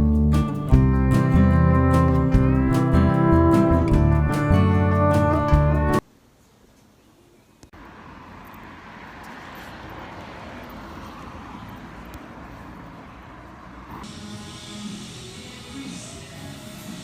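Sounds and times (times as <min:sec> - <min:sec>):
traffic hum: 0:00.0 - 0:06.0, 0:07.7 - 0:15.6.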